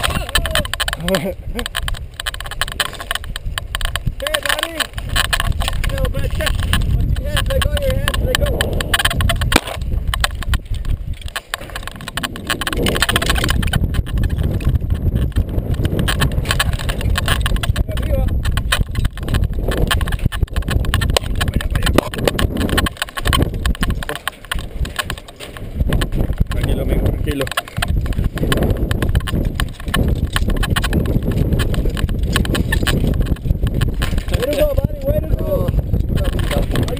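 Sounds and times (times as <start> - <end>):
clicks and rattles: 0.0 - 36.9
metal climbing hardware clanking: 0.0 - 36.9
wind buffeting microphone: 0.0 - 36.9.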